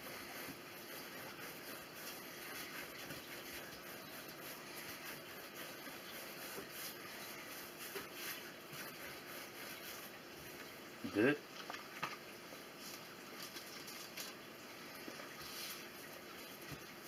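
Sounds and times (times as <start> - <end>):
hands rolling dough on wood: 0.0 - 17.0.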